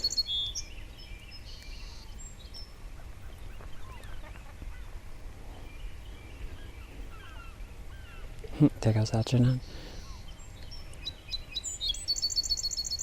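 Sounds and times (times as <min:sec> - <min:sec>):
distant gulls and geese calling: 0:01.5 - 0:13.0.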